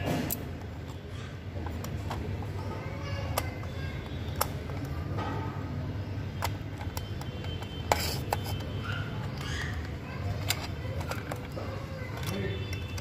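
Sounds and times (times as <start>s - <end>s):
plastic toy truck clicks: 1.6s - 5.5s, 6.2s - 13.0s.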